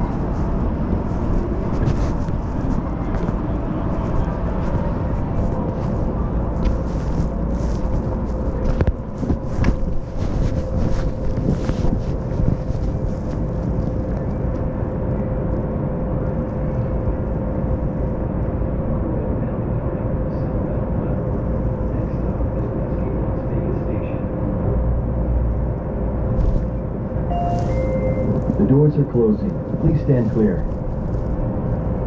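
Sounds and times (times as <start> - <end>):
constant whine: 0.0 - 32.0
monorail low rumble: 0.0 - 32.0.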